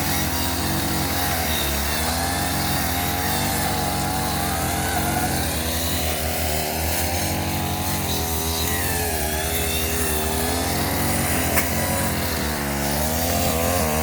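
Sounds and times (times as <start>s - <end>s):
brush cutter engine running: 0.0s - 14.0s.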